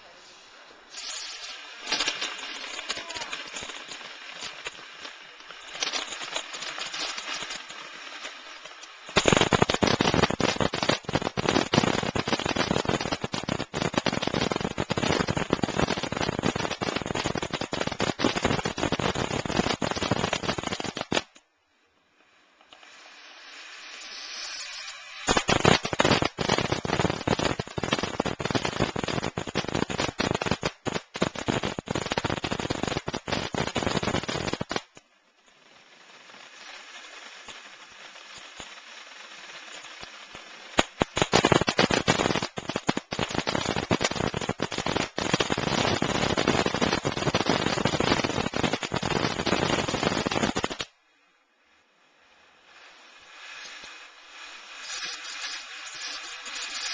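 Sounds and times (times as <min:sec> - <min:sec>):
firework crackling and hissing: 0:00.0 - 0:21.5, 0:22.1 - 0:56.9.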